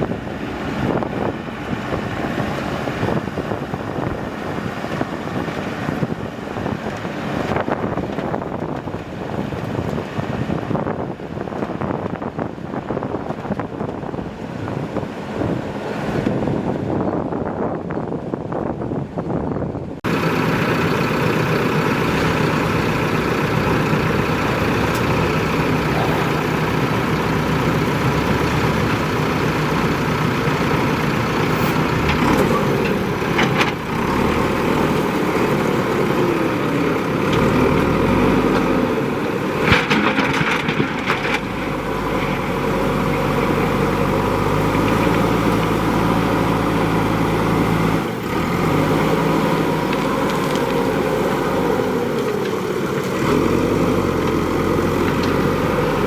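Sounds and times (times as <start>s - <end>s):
diesel engine running: 0.0s - 10.9s, 20.0s - 56.0s.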